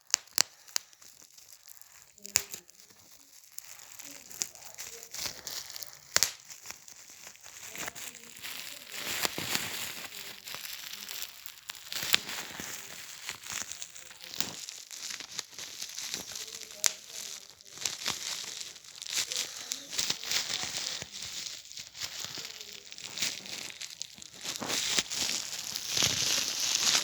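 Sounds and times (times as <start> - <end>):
bubble wrap crinkling: 0.0 - 27.0
bubble wrap popping: 0.0 - 27.0.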